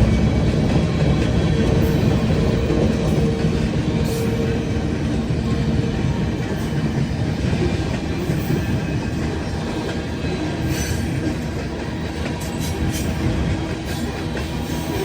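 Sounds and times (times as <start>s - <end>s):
faint clicks of train wheels: 0.0s - 15.0s
freight train cars rumbling: 0.0s - 15.0s.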